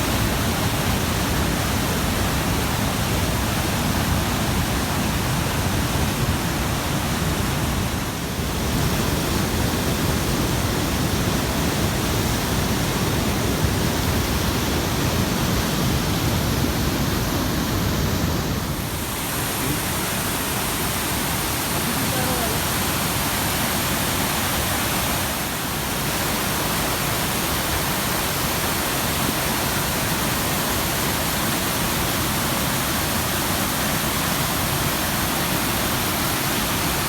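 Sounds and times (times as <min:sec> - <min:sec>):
water rushing over cascades: 0:00.0 - 0:37.0.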